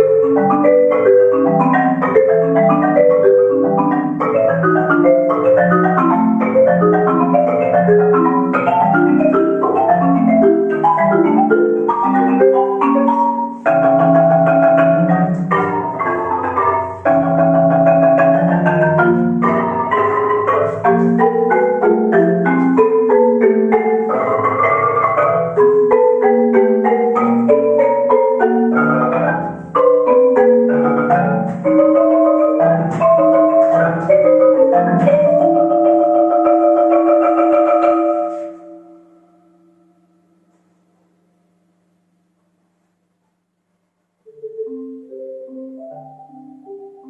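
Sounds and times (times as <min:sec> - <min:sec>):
marimba music: 0:00.0 - 0:41.3, 0:44.2 - 0:47.0.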